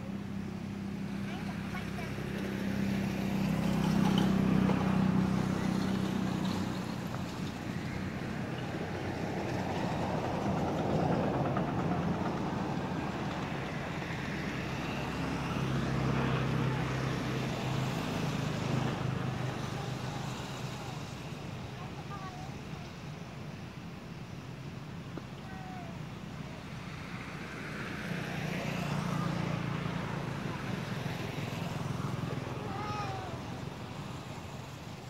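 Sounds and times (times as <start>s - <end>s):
motor traffic engine hum: 0.0s - 35.0s.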